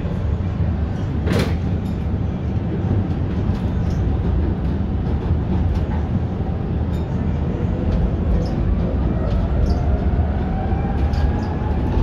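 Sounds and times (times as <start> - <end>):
tram rumbling along track: 0.0 - 12.0.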